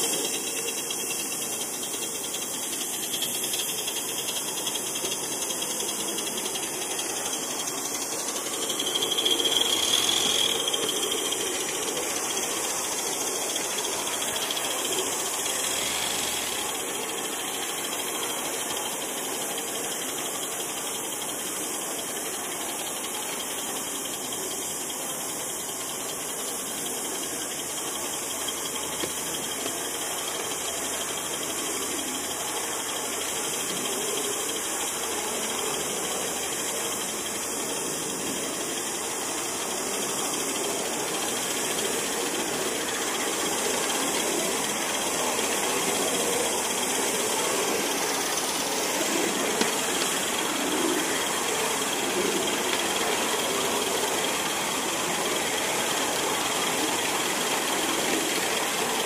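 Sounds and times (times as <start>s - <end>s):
high-pitched steady note: 0.0s - 59.0s
steam hissing: 0.0s - 59.0s
wheels rattling on track: 0.0s - 59.0s.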